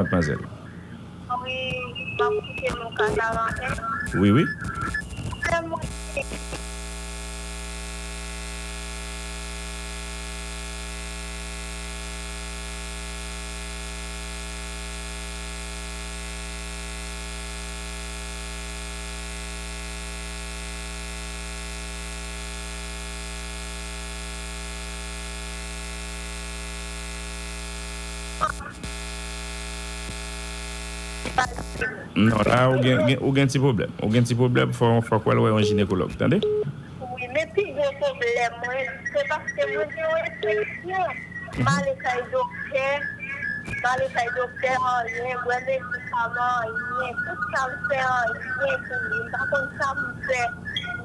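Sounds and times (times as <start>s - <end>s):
electrical mains hum with hiss: 0.0s - 51.0s.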